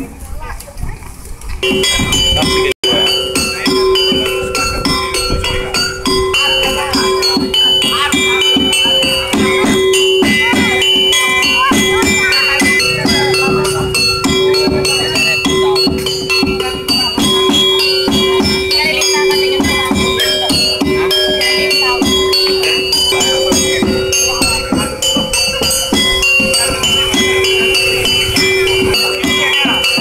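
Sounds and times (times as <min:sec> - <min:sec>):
rhythmic percussion music: 0:00.0 - 0:30.0
bell-like metallic notes: 0:01.6 - 0:30.0
steady held tone: 0:01.6 - 0:30.0.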